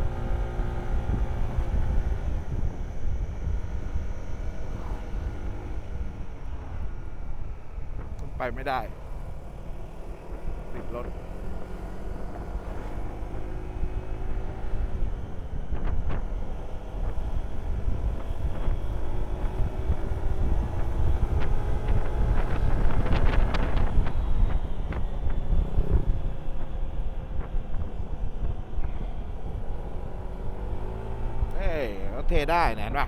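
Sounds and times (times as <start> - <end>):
motorcycle engine: 0.0 - 32.4
wind buffeting microphone: 0.0 - 33.0.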